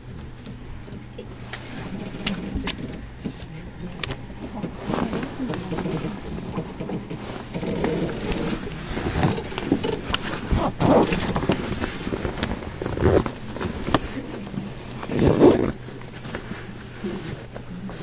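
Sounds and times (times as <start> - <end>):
knocks and rustles: 0.0 - 18.0
train equipment humming: 0.0 - 18.0.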